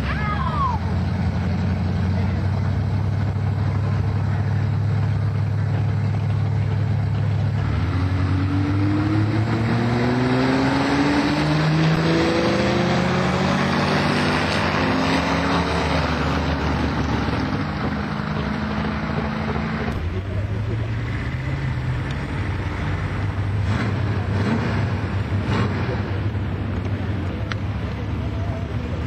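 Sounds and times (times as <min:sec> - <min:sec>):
drag racing engines revving: 0:00.0 - 0:29.0.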